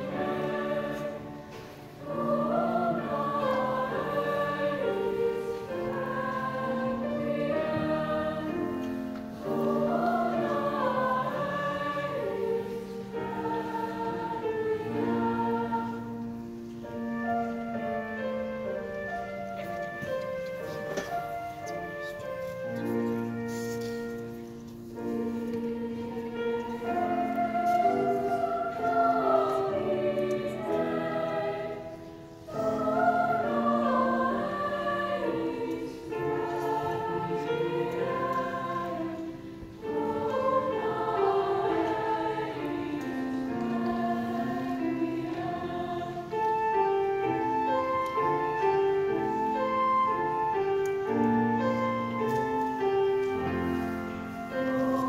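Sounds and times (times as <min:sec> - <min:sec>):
choir singing in parts: 0:00.0 - 0:55.0
piano accompaniment: 0:00.0 - 0:55.0.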